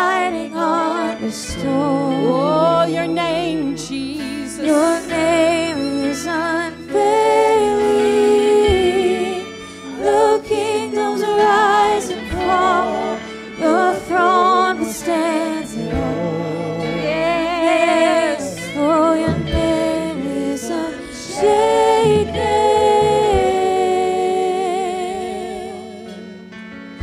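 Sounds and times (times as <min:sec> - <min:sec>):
man and woman singing: 0:00.0 - 0:26.1
worship band accompaniment: 0:00.0 - 0:27.0.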